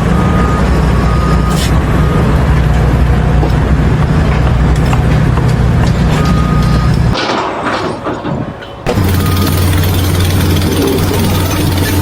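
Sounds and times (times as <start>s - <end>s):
large engine rumbling: 0.0s - 12.0s.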